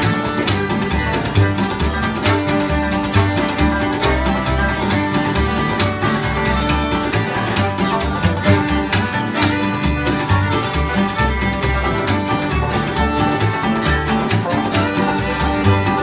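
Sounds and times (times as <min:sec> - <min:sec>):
bass notes: 0:00.0 - 0:16.0
fiddle: 0:00.0 - 0:16.0
picked guitar: 0:00.0 - 0:16.0.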